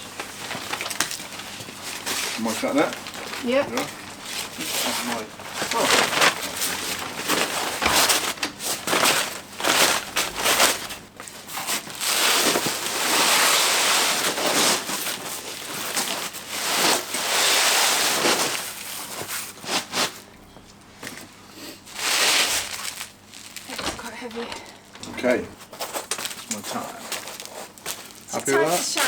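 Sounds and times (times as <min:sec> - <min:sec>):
roofing felt crinkling: 0:00.0 - 0:29.0.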